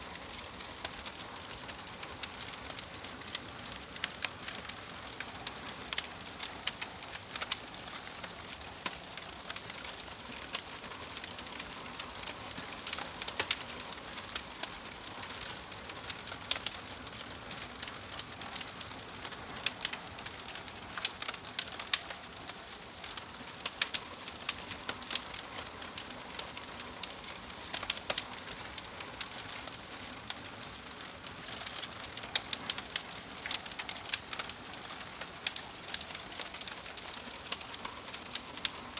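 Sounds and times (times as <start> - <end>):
wood fire pops and snaps: 0.0 - 38.9.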